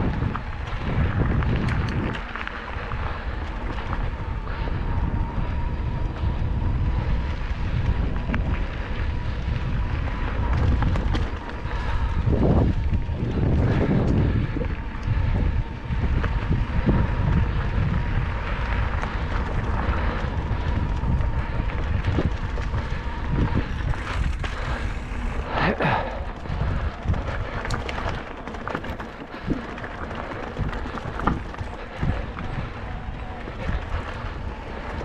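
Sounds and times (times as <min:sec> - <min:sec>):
bike clicking and rattling: 0:00.0 - 0:35.0
bike tyre noise on dirt: 0:00.0 - 0:35.0
wind rumble on microphone: 0:00.0 - 0:35.0.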